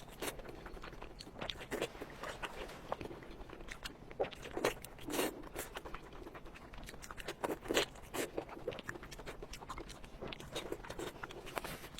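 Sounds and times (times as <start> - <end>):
person chewing crunchy food: 0.0 - 11.9.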